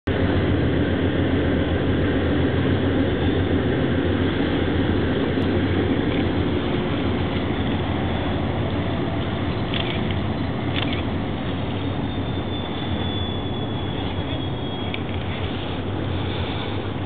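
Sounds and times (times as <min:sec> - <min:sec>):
ship engines rumbling: 0:00.1 - 0:17.0.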